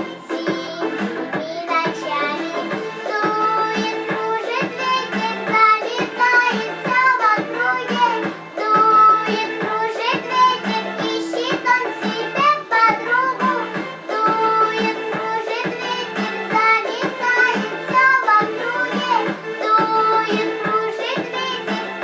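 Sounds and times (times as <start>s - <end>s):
girl singing: 0.0s - 22.0s
instrumental backing track: 0.0s - 22.0s.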